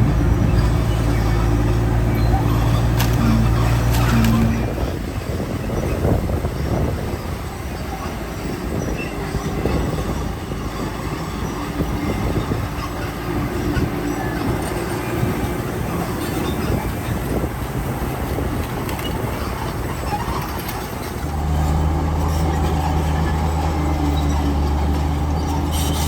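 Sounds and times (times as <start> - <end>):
heavy earthmoving machinery running: 0.0 - 26.0.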